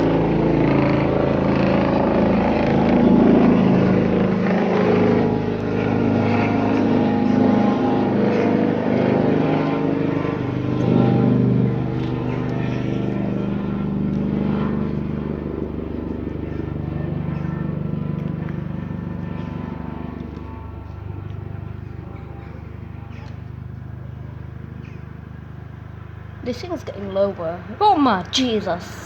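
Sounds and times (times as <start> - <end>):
helicopter flying overhead: 0.0 - 29.0.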